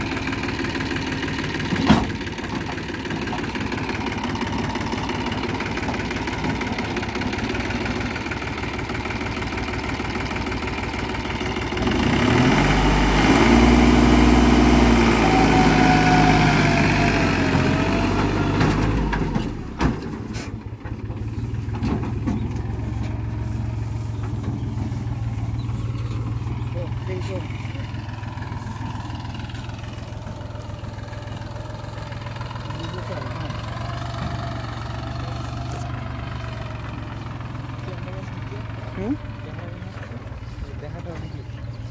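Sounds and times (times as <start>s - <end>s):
tractor diesel engine revving: 0.0s - 41.9s.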